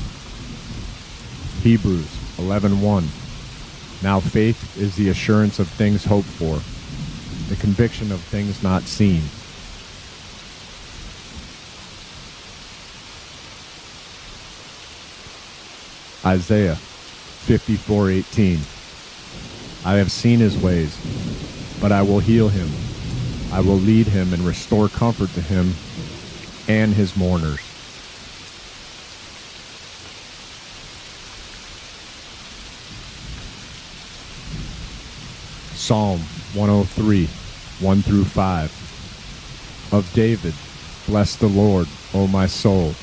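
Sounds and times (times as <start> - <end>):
steady rain hiss: 0.0 - 43.0.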